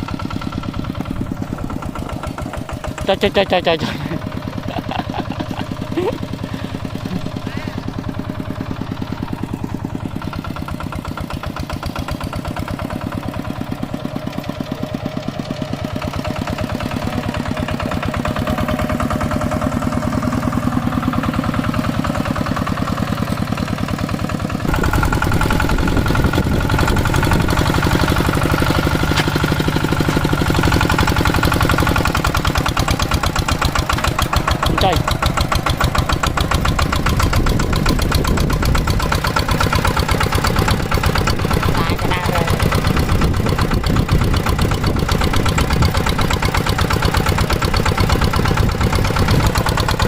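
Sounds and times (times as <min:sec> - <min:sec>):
diesel engine chugging: 0:00.0 - 0:50.0.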